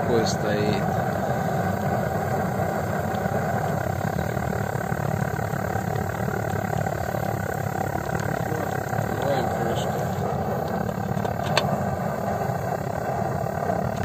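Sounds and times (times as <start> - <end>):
gas blowtorch rushing: 0.0 - 14.0.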